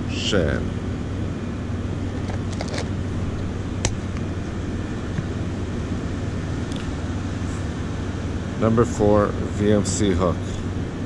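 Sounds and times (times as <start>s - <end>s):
parking garage hum: 0.0s - 11.0s.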